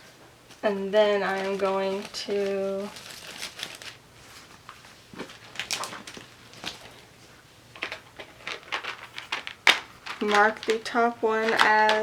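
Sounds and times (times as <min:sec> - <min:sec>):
paper rustling: 0:01.1 - 0:12.0.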